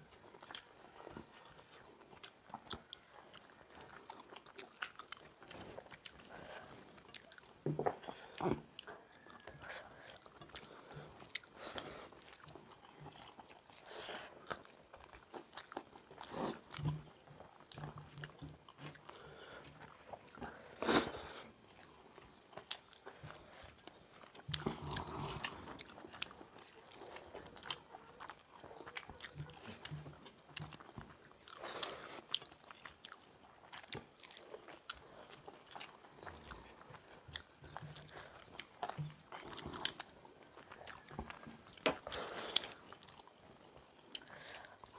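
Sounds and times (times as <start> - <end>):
people chewing and biting: 0.0 - 44.9.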